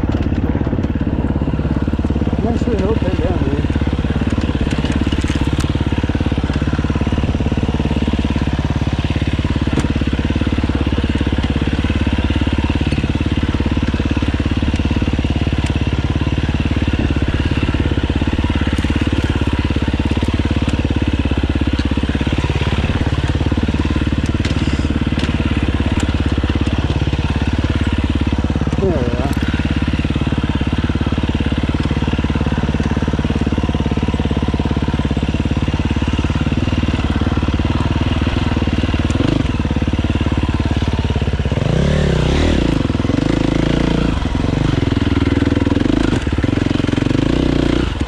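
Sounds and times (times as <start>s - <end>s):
dirt bike engine running: 0.0s - 48.0s.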